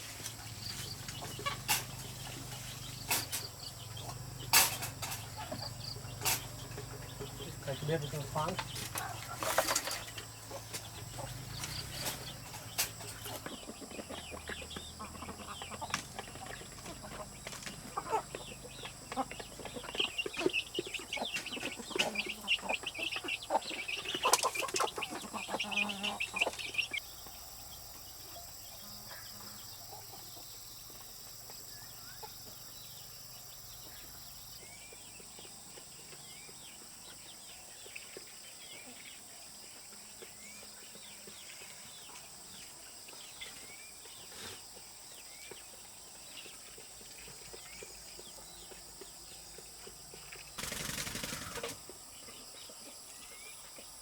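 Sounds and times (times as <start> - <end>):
chickens clucking: 0.0 - 54.0
quiet outdoor background: 0.0 - 54.0.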